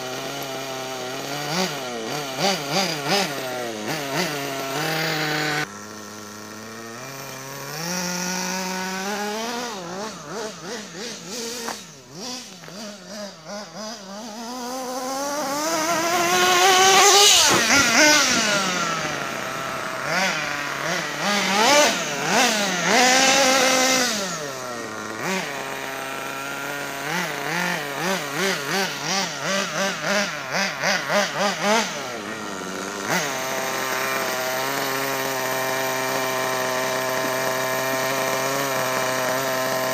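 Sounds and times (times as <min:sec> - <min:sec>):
small nitro engine revving: 0:00.0 - 0:39.9.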